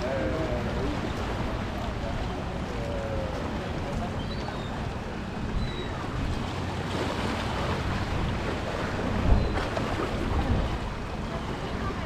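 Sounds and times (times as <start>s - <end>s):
sea rushing: 0.0s - 12.0s
wind buffeting microphone: 0.0s - 12.0s.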